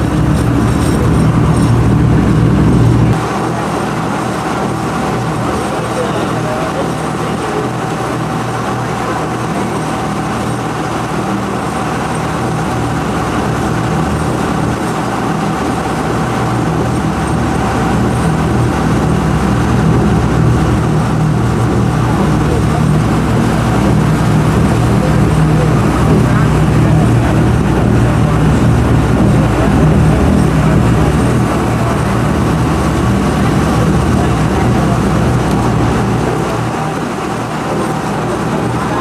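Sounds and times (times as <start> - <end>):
boat engine droning: 0.0 - 39.0
faint whine: 0.0 - 39.0.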